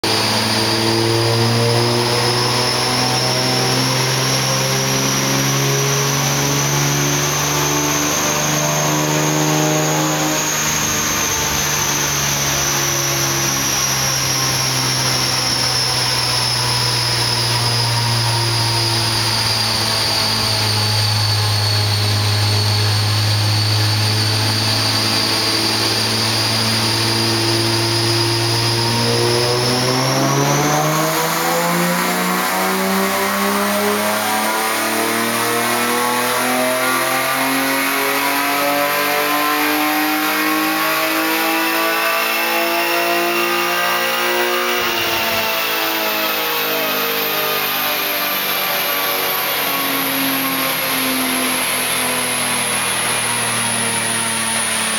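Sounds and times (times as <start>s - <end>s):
high whine: 0.0s - 54.9s
race car engine revving: 0.0s - 54.9s.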